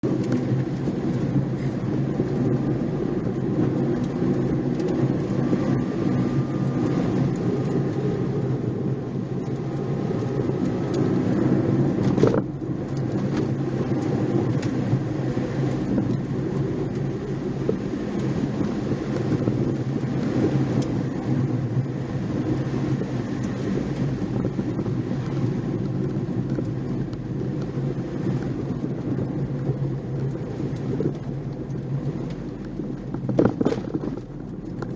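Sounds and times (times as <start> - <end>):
car engine pulling: 0.0 - 34.9
tyre and road rumble: 0.0 - 34.9.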